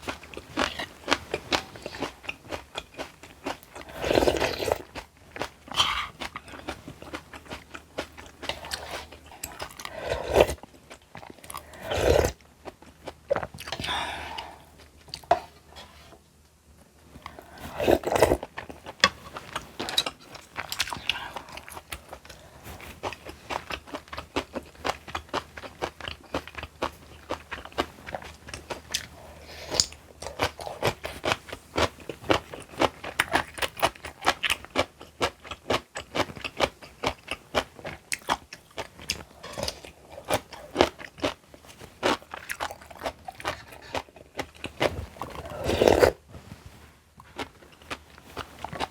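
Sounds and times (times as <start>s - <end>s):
chewing crunchy food: 0.0s - 16.1s, 17.2s - 48.9s.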